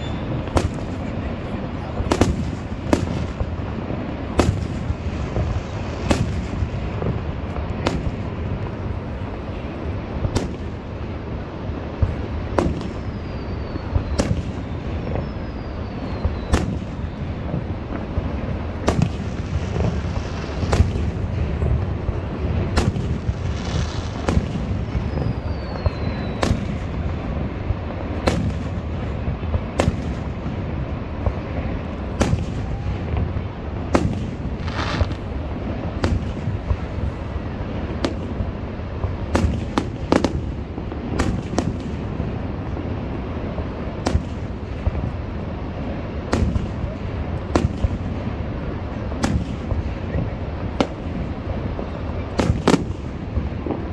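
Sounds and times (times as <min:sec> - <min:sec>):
fireworks bursting: 0:00.0 - 0:53.9
steady low rumble: 0:00.0 - 0:53.9.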